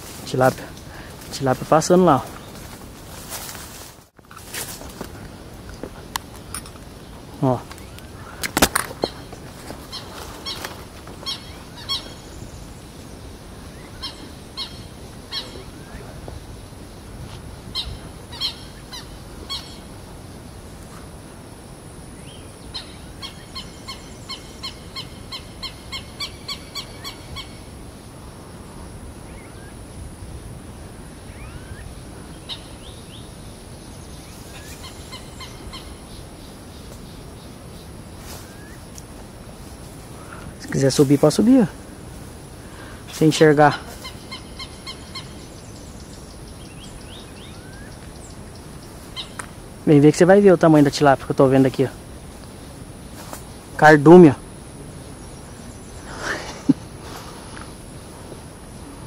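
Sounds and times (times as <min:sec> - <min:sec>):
bird calling: 0:00.0 - 0:21.2, 0:22.1 - 0:27.8, 0:30.8 - 0:58.2.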